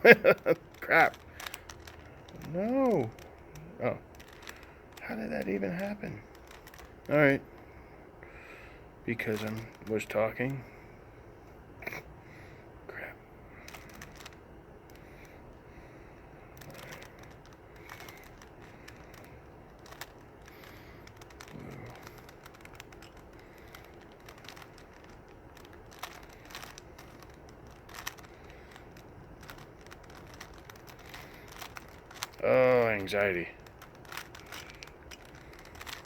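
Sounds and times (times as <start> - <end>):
puzzle cube clicking: 0.0 - 7.8, 8.5 - 10.8, 12.9 - 36.0.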